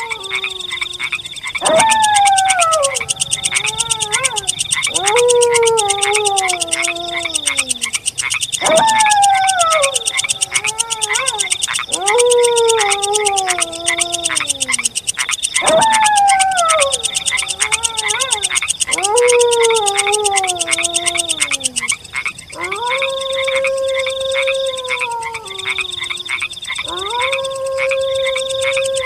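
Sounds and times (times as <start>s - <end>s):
wolf howling: 0.0s - 8.0s, 8.6s - 21.9s, 22.5s - 29.0s
pulsing night chorus: 0.0s - 29.0s.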